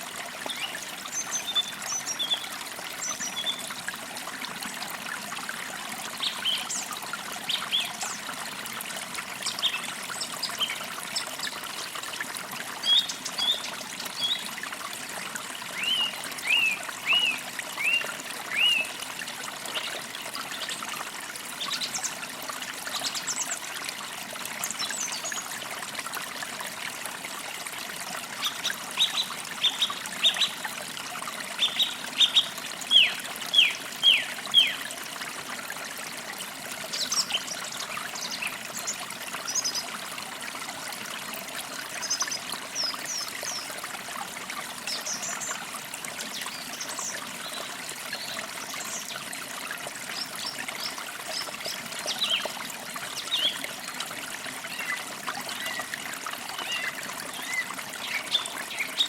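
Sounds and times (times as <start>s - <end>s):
creek trickling over stones: 0.0s - 59.0s.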